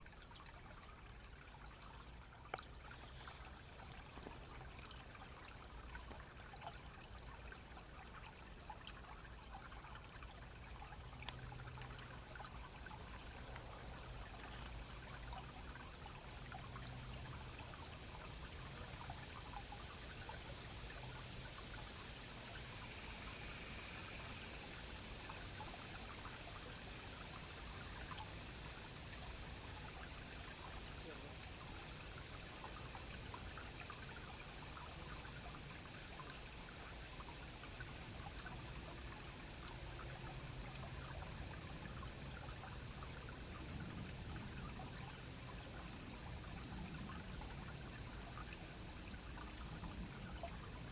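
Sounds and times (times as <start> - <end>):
stream trickling: 0.0 - 50.9.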